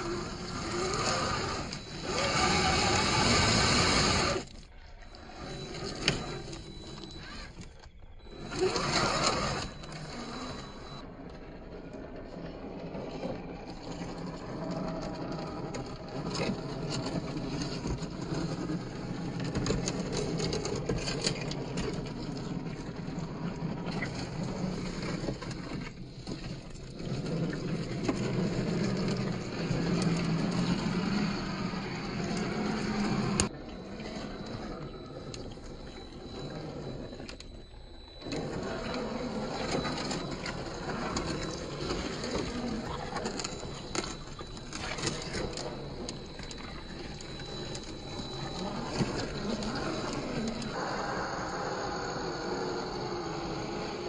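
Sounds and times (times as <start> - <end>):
electric motor drive drone: 0.0 - 54.0.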